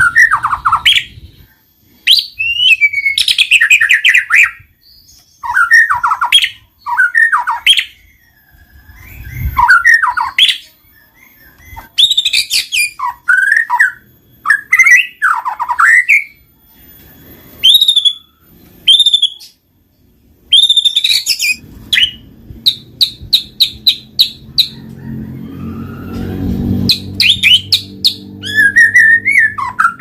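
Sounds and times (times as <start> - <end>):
bird singing whistled notes: 0.0 - 24.8, 26.8 - 30.0.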